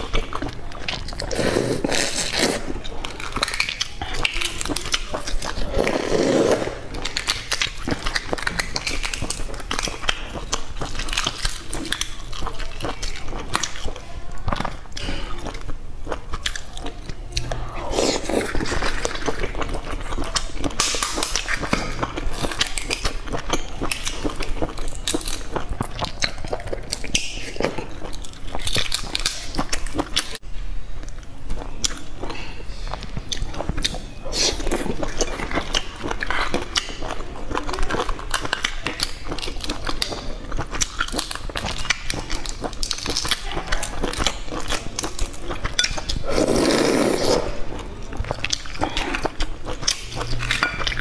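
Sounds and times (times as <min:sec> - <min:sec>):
wet chewing: 0:00.0 - 0:30.4, 0:31.0 - 0:51.0.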